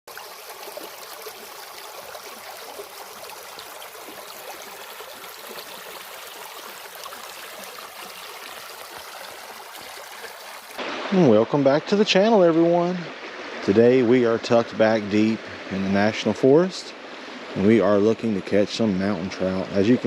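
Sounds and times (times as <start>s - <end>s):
mountain creek babbling: 0.1s - 20.0s.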